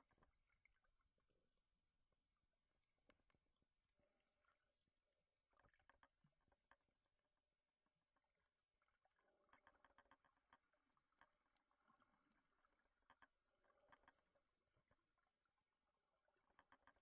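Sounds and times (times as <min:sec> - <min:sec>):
faint underwater clicks and crackling: 0:00.0 - 0:17.0.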